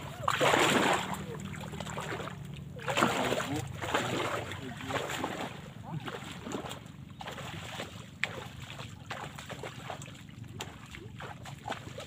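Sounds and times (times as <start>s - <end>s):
steady low hum: 0.0s - 12.0s
water sloshing and splashing: 0.0s - 12.0s.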